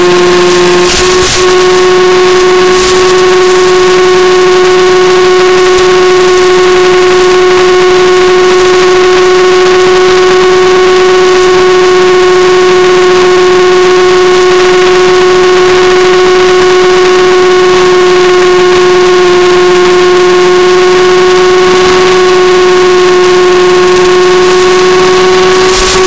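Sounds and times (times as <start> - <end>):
electric motor and propeller whine: 0.0 - 26.0.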